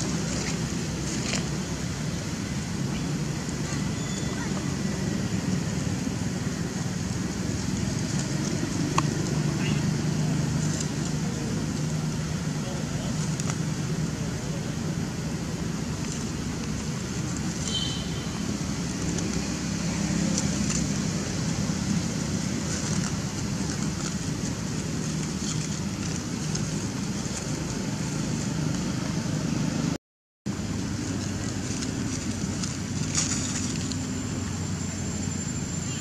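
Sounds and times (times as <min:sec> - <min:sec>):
low hum of distant traffic: 0:00.0 - 0:36.0.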